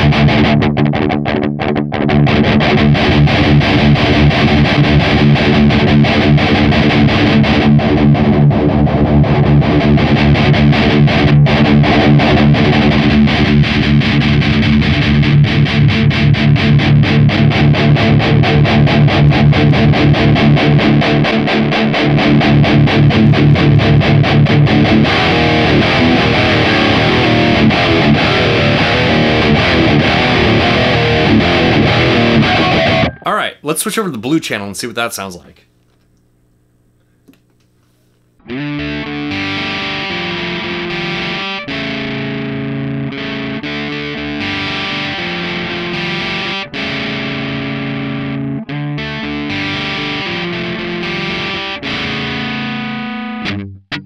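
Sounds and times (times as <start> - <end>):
distorted electric guitar riffing: 0.0 - 35.7, 38.0 - 54.0.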